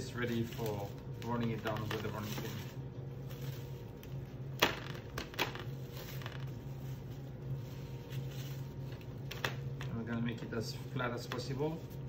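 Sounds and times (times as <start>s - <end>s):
cling wrap crinkling: 0.0s - 10.2s
steady low hum: 0.0s - 12.0s.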